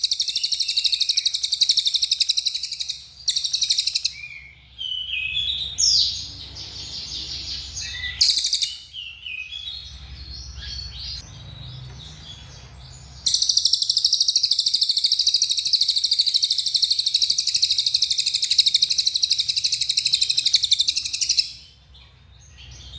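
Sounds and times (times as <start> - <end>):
songbird singing: 0.0 - 22.9.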